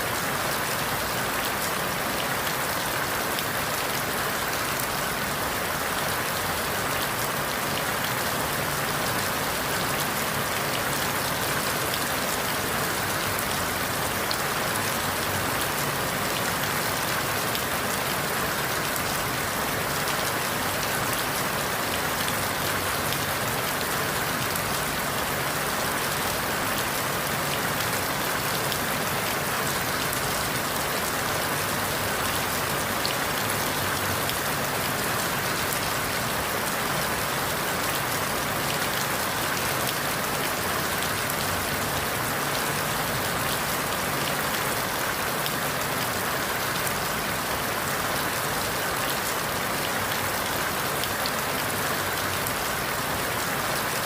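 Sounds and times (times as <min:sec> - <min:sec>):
rain falling through leaves: 0:00.0 - 0:54.0.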